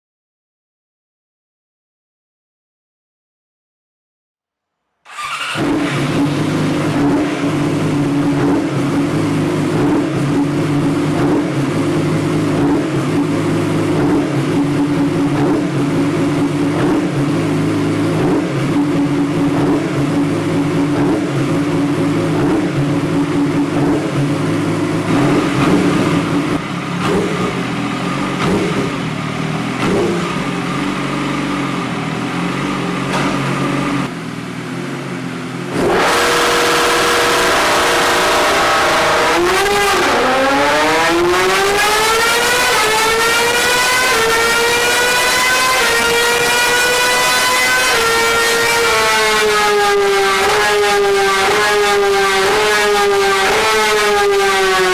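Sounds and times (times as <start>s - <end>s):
motorcycle engine running: 5.1s - 54.9s.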